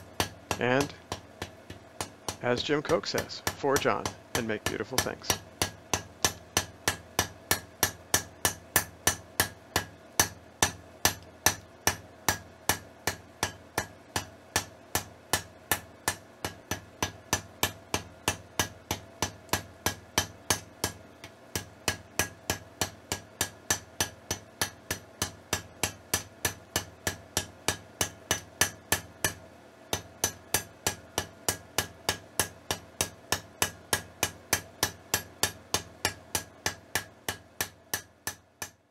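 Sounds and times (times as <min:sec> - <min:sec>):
hammer striking steel on anvil: 0:00.0 - 0:38.8.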